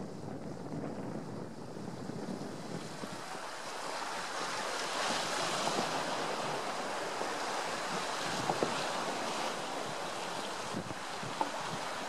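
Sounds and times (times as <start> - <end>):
wind on microphone: 0.0 - 12.0
sea surf: 1.5 - 12.0.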